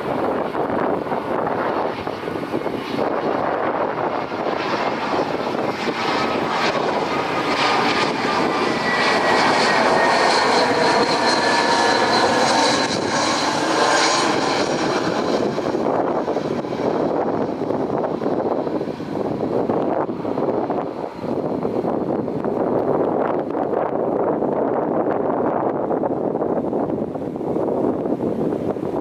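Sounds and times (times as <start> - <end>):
jet airliner passing by: 0.0 - 29.0.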